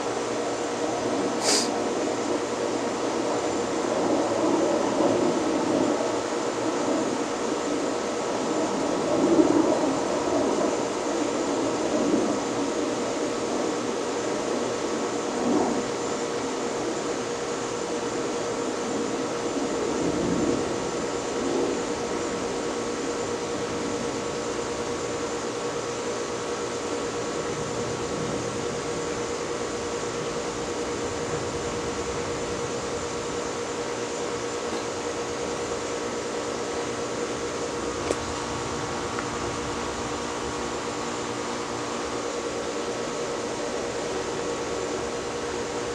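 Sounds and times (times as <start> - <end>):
ceiling fan air rushing: 0.0 - 45.9
faint fan hum: 0.0 - 45.9.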